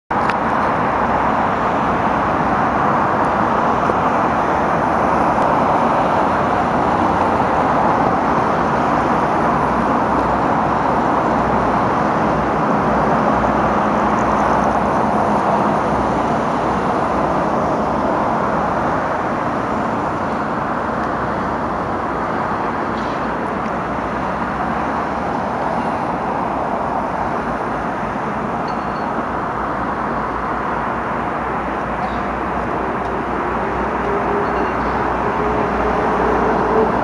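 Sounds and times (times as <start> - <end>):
distant road traffic rushing: 0.1 - 37.0
faint low train hum: 1.7 - 37.0.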